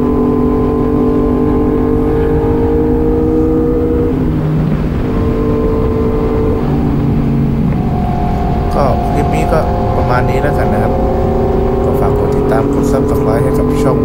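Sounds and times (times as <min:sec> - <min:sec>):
motorcycle engine running: 0:00.0 - 0:14.0
wind rumble on microphone: 0:00.0 - 0:14.0.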